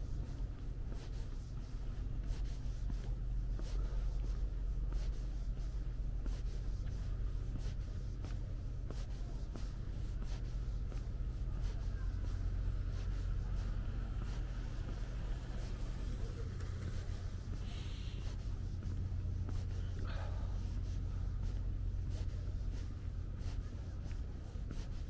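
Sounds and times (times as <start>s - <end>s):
footsteps walking: 0.0s - 25.0s
steady low rumble: 0.0s - 25.0s.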